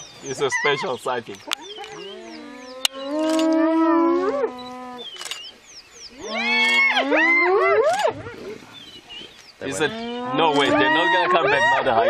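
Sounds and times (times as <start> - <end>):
birds chirping: 0.0 - 12.0
hyena calling: 0.0 - 12.0.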